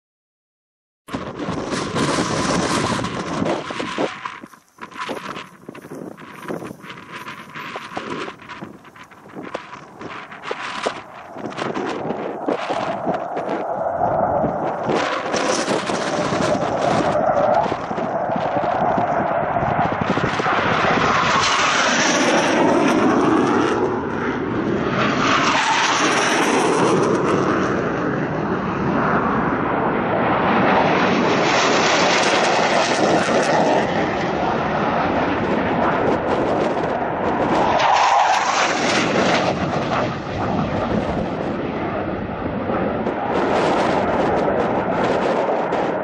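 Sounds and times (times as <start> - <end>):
jets flying low past: 1.1 - 46.0.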